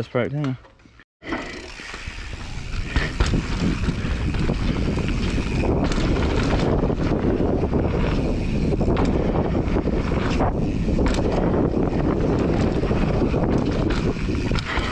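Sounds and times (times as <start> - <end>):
tyres rumbling on dirt: 1.2 - 14.9
wind buffeting microphone: 2.1 - 14.9
bike knocking over bumps: 2.4 - 14.9.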